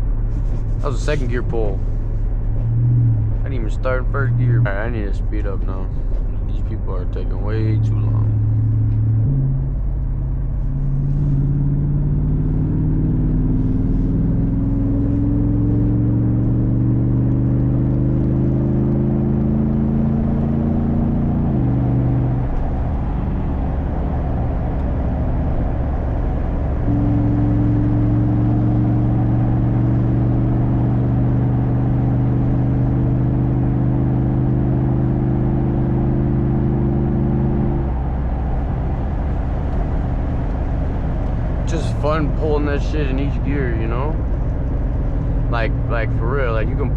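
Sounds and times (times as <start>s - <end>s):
car engine accelerating: 0.0s - 46.9s
road drone: 0.0s - 46.9s.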